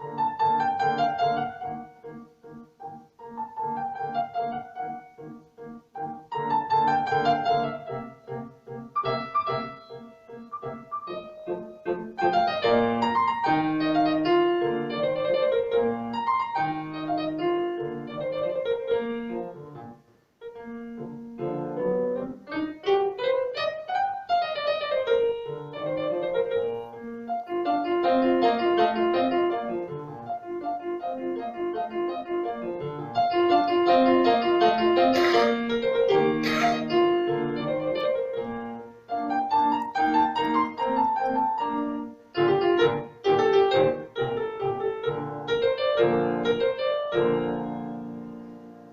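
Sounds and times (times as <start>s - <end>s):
piano music: 0.0s - 48.9s.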